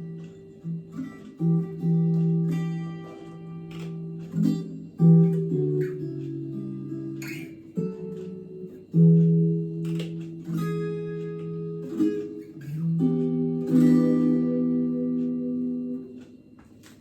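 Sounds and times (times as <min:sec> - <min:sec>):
clean electric guitar strummed chords: 0:00.0 - 0:17.0.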